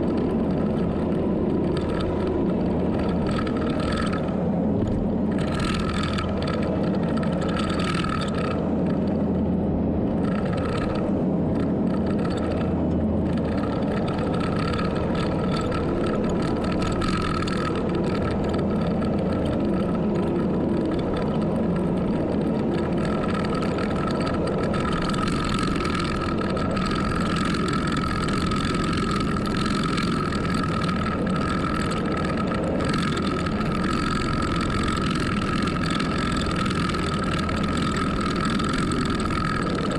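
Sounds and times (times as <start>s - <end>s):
heavy machine engine whining: 0.0s - 39.9s.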